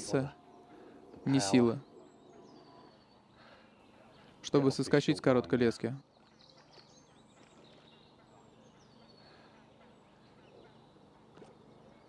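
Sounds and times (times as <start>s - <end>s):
faint high bird calls: 0.0s - 12.0s
low steady hum: 0.0s - 12.0s.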